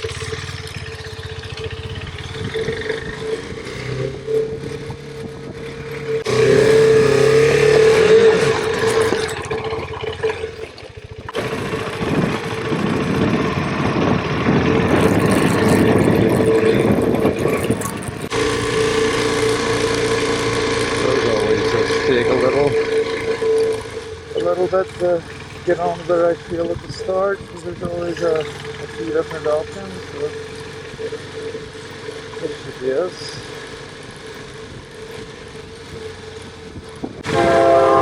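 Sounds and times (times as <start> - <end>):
tyre noise: 0.0 - 37.6
motorcycle engine running: 0.0 - 38.0
wind: 0.0 - 38.0.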